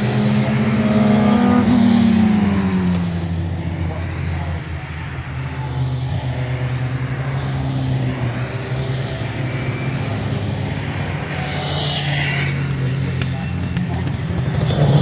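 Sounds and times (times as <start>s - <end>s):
race cars passing: 0.0s - 15.0s.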